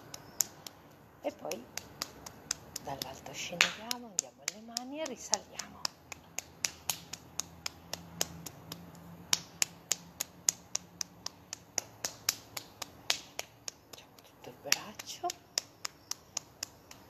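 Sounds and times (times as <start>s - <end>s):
hand slapping a bare arm: 0.0s - 17.0s.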